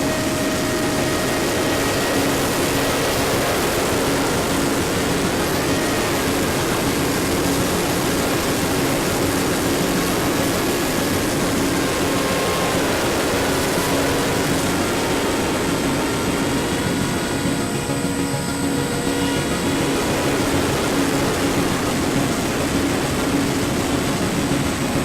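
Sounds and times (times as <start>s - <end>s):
electric motor and propeller: 0.0s - 25.0s.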